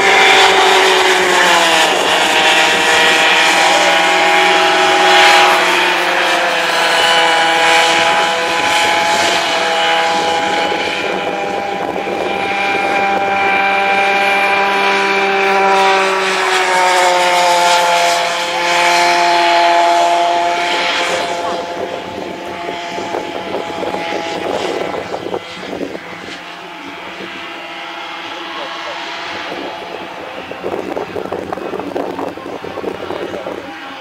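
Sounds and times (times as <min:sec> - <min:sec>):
kart engines buzzing: 0:00.0 - 0:34.0.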